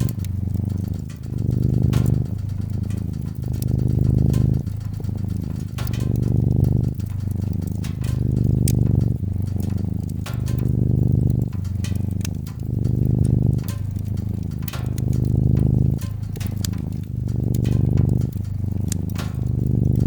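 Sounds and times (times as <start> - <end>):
cat purring: 0.0 - 20.0
wood fire crackling: 0.0 - 20.0.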